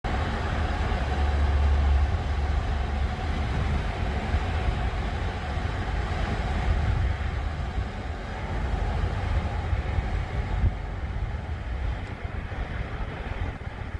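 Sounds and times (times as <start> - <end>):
truck diesel engine idling: 0.0 - 13.8.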